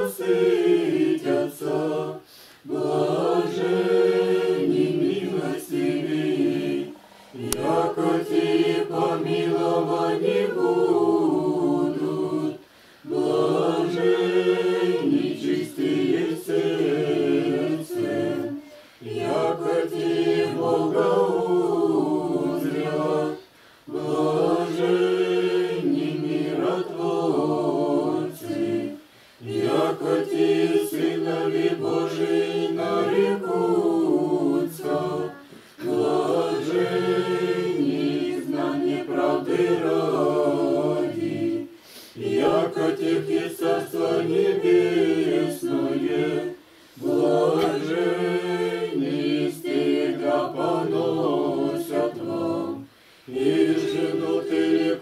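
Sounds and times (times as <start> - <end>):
unaccompanied choir chanting: 0.0 - 55.0.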